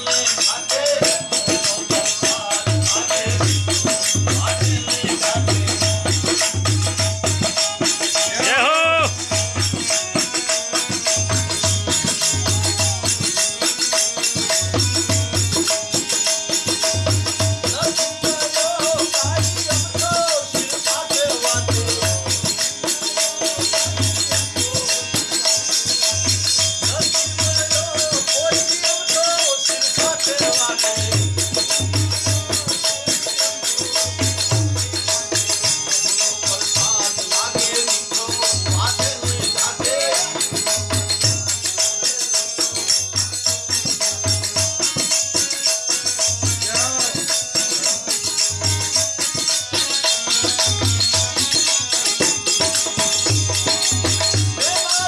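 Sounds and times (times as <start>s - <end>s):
jingling rattle percussion: 0.0s - 55.0s.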